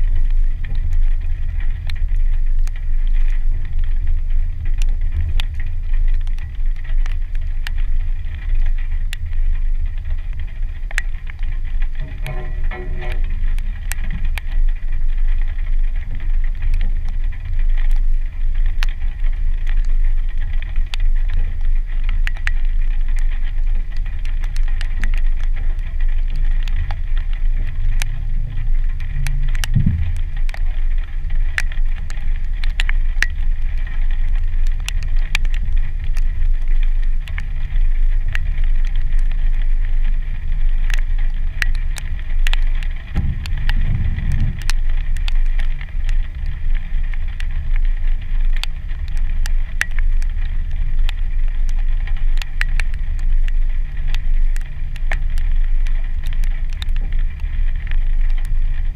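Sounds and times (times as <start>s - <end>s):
car engine low rumble: 0.0s - 58.9s
raindrops tapping on camera: 0.0s - 58.9s
wind on camera: 0.0s - 58.9s.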